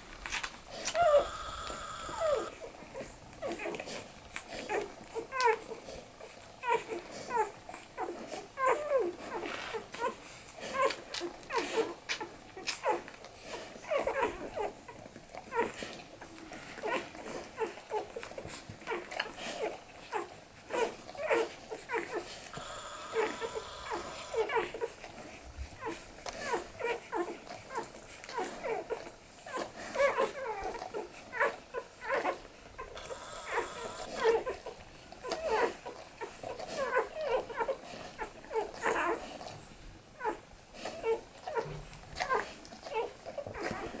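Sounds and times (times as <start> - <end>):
puppies squeaking and whimpering: 0.7 - 39.6, 40.2 - 44.0.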